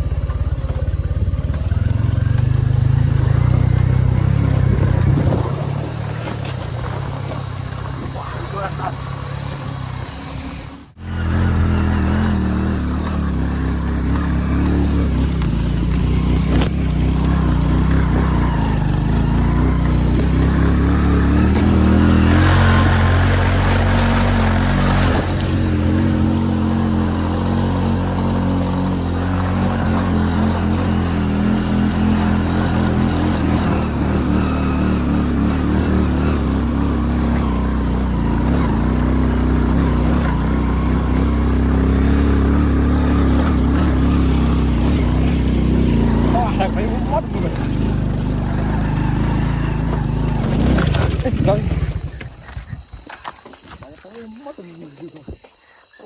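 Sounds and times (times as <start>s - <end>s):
motorcycle engine running: 0.0s - 54.6s.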